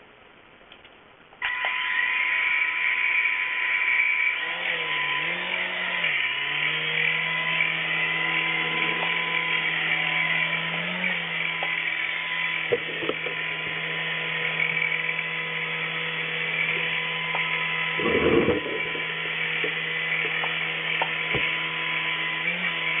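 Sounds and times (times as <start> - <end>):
toy helicopter motors whining: 1.4 - 23.0
low wavering hum: 3.8 - 23.0.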